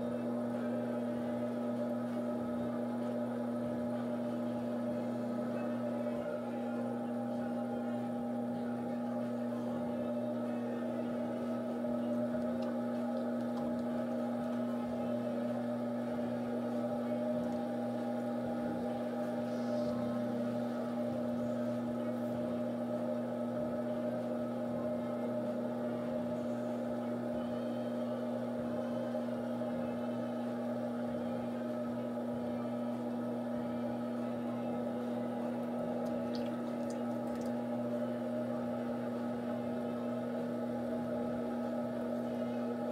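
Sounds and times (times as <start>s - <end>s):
potter's wheel motor humming: 0.0s - 42.9s.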